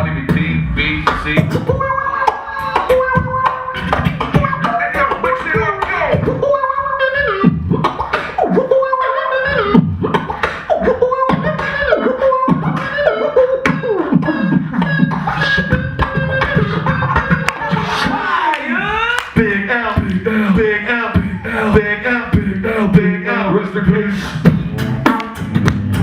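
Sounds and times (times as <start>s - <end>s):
beatboxing drum hits: 0.0s - 18.4s, 19.2s - 26.0s
sliding vocal lines: 0.0s - 26.0s.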